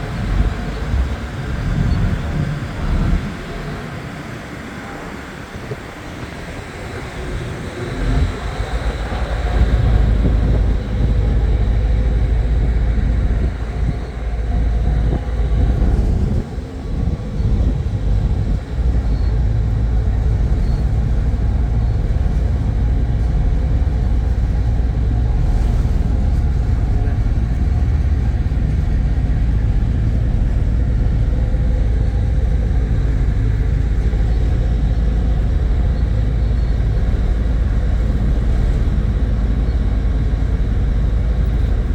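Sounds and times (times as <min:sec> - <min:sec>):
ferry engine rumble: 0:00.0 - 0:41.9.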